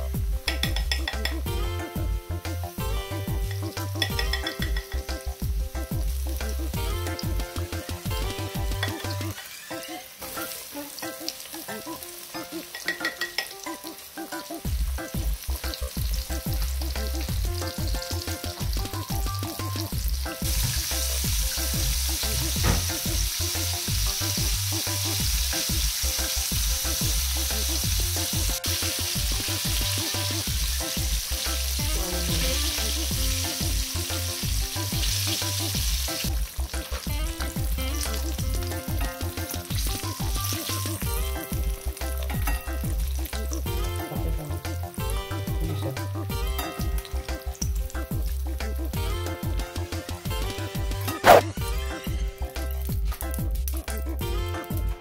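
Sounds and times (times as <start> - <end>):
fish deep-frying in oil: 0.0 - 55.0.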